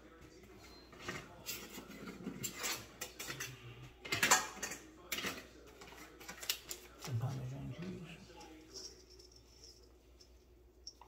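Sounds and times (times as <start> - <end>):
dishes and utensils clattering: 0.0 - 11.0.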